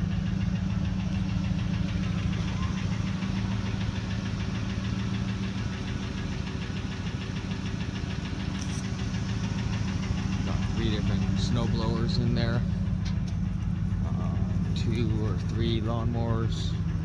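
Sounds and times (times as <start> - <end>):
fast regular engine ticking: 0.0 - 17.0
truck engine idling: 0.0 - 17.0.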